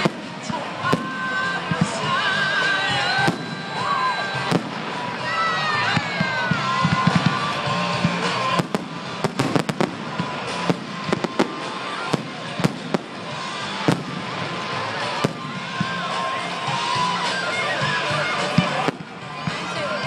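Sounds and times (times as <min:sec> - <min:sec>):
fireworks cracking and banging: 0:00.0 - 0:20.0.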